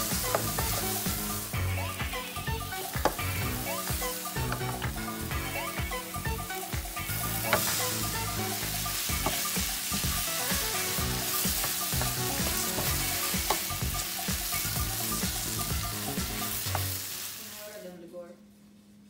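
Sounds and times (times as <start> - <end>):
food sizzling in oil: 0.0 - 17.8.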